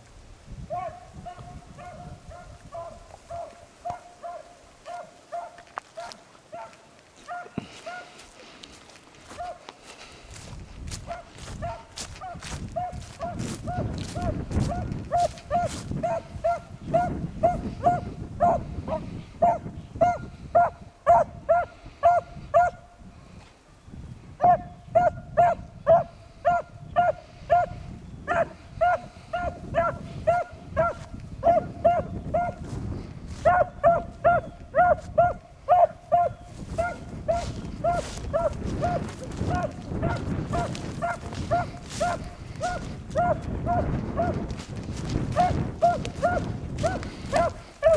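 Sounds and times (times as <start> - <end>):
hound barking: 0.7 - 8.3, 9.3 - 9.8, 10.9 - 22.9, 24.4 - 44.5, 45.3 - 47.9.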